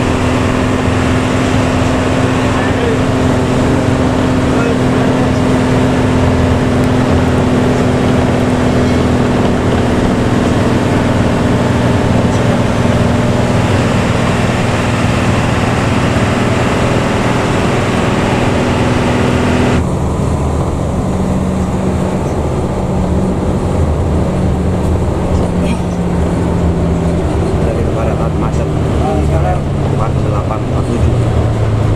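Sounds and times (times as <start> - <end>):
bus diesel engine with growling exhaust: 0.0 - 31.9.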